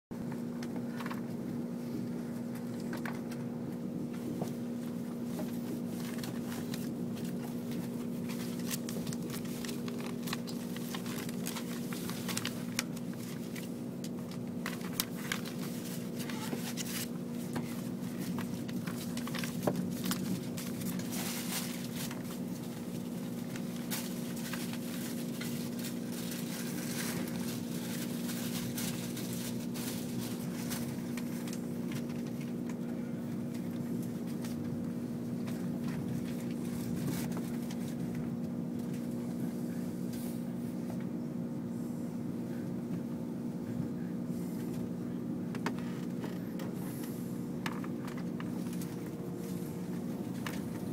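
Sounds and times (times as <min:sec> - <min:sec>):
train cabin hum: 0:00.2 - 0:50.9.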